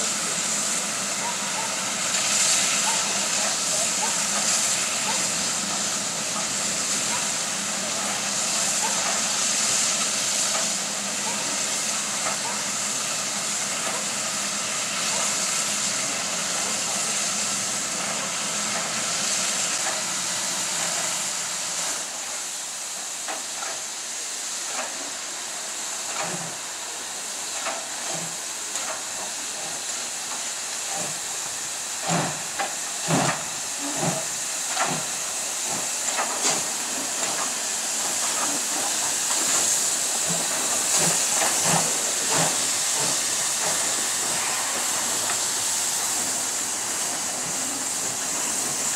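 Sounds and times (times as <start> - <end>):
steam locomotives hissing: 0.0 - 48.9.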